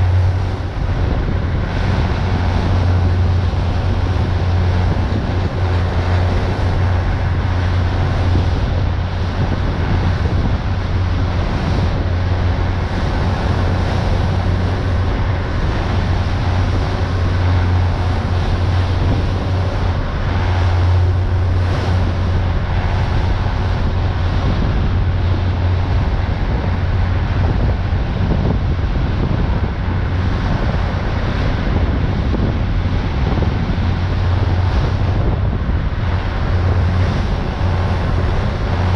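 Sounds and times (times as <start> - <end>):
boat engine drone: 0.0 - 38.9
water rushing past hull: 0.0 - 38.9
wind buffeting microphone: 0.0 - 38.9.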